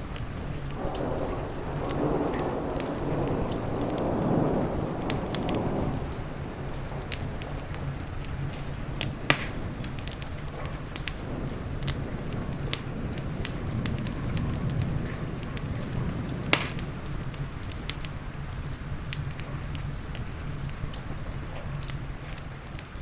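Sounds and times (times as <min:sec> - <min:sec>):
steady low rumble: 0:00.0 - 0:22.9
loud fire pops: 0:00.0 - 0:23.0
wood fire crackling: 0:00.0 - 0:23.0.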